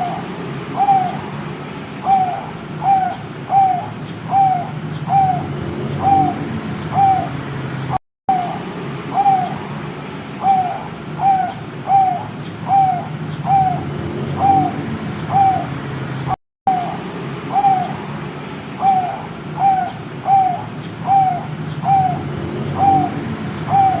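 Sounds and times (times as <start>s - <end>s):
dove cooing: 0.0s - 7.4s, 8.3s - 15.8s, 16.7s - 18.2s, 18.8s - 24.0s
steady low hum: 0.0s - 24.0s.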